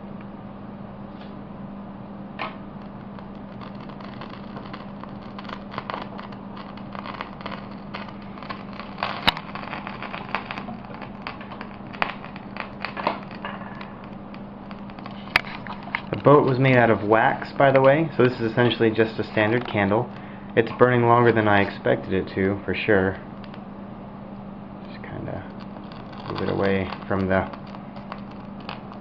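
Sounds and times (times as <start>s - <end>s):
steady low hum: 0.0s - 29.0s
flames crackling and popping: 1.1s - 29.0s.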